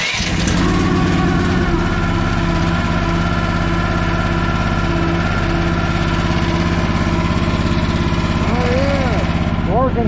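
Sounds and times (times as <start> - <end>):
small gasoline engine idling: 0.0 - 10.0.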